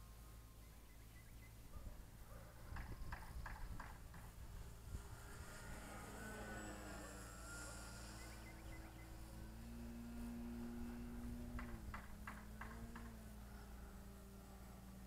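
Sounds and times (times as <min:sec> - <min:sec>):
model plane motor drone: 0:02.0 - 0:15.0.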